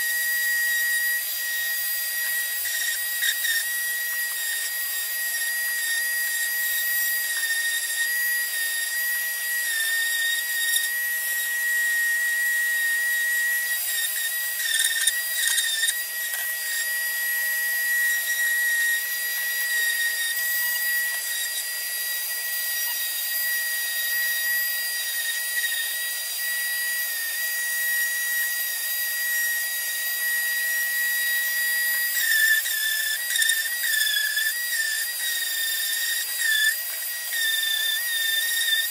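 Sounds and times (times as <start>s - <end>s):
orbital sander whining: 0.0s - 38.9s
shop vacuum: 0.0s - 38.9s.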